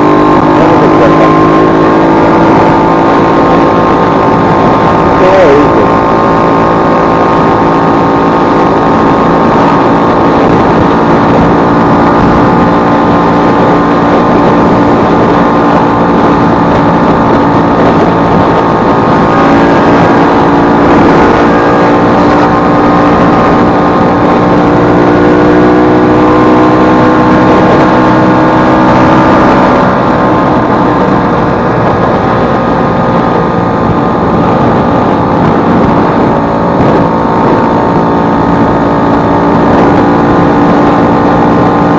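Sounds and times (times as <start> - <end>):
scooter two-stroke engine running: 0.0 - 41.9.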